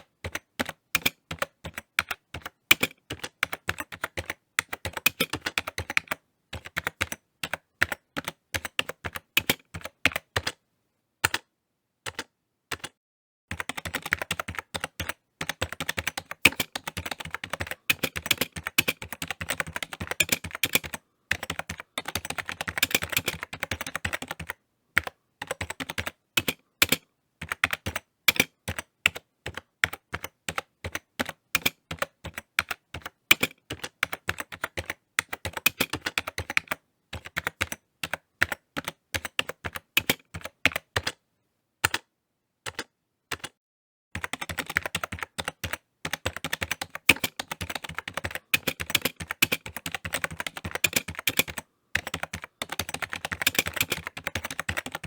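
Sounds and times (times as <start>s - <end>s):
computer keyboard typing: 0.0s - 10.6s, 11.2s - 11.5s, 12.1s - 41.2s, 41.8s - 42.1s, 42.7s - 43.6s, 44.2s - 55.0s.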